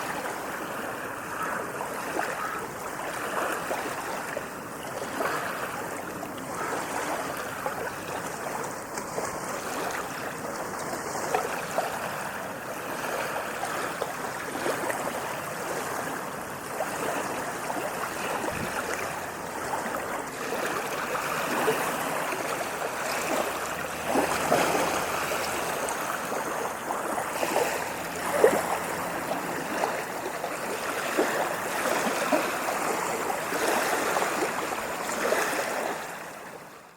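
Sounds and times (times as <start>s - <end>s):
ocean waves washing: 0.0s - 36.8s
water splashes: 0.0s - 36.9s.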